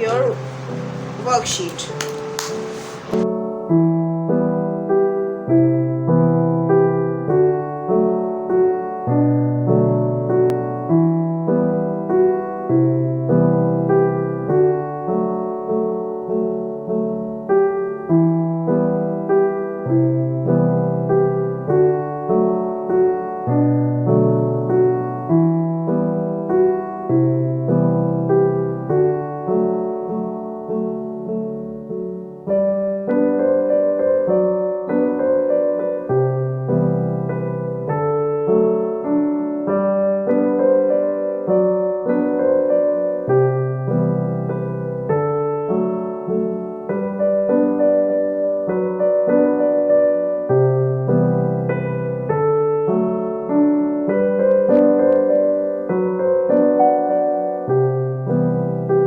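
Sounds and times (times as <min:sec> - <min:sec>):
gentle electric piano melody: 0:00.0 - 0:59.0.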